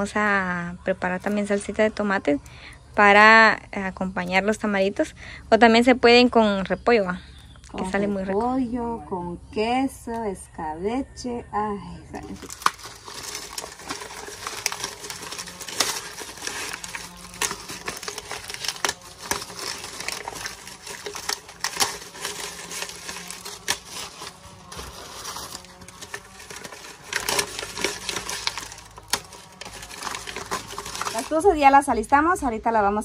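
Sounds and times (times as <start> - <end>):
dry corn husks crackling: 0.0 - 8.6, 12.1 - 33.0.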